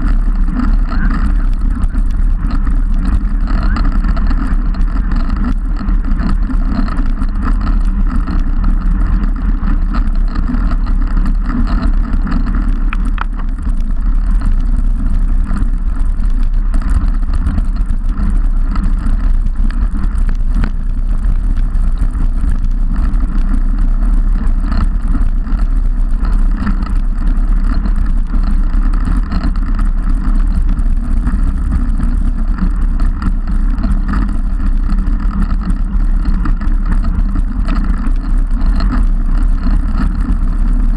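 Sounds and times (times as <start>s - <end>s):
bike tyres humming on tarmac: 0.0s - 40.9s
wind buffeting microphone: 0.0s - 40.9s.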